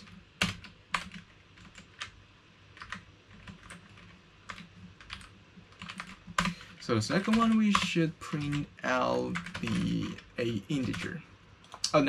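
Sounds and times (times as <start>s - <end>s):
typing on computer keyboard: 0.0s - 2.2s, 2.8s - 11.9s.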